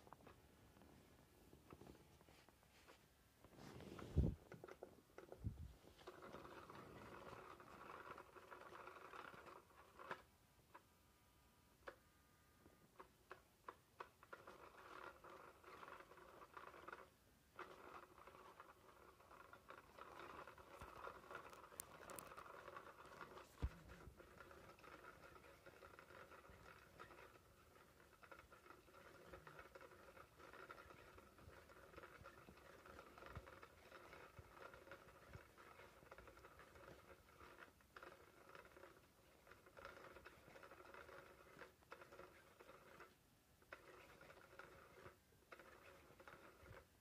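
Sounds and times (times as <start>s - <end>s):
light pattering and scratching: 0.0s - 10.8s, 12.9s - 47.0s
faint toy motor whir: 1.6s - 10.9s, 12.7s - 47.0s.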